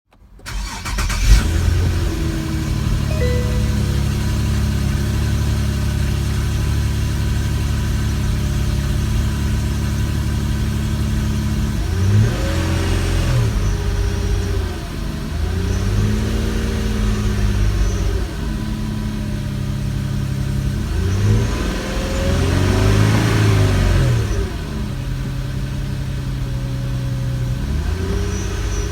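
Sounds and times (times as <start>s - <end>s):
car engine idling and revving: 4.2s - 28.9s.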